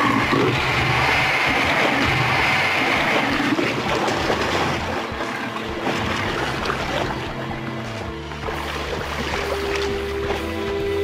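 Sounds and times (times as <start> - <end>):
water splashing and churning: 0.0 - 11.0.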